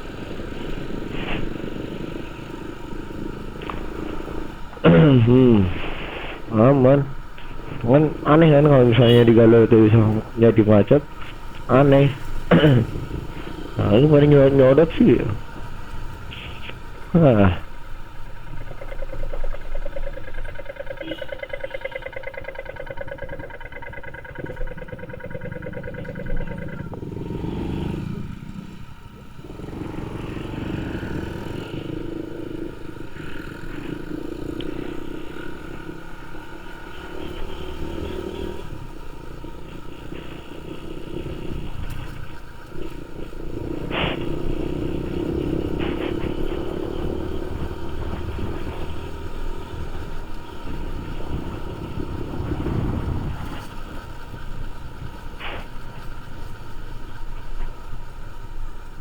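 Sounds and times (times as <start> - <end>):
motorcycle engine running: 0.0 - 59.0
road rumble: 0.0 - 59.0.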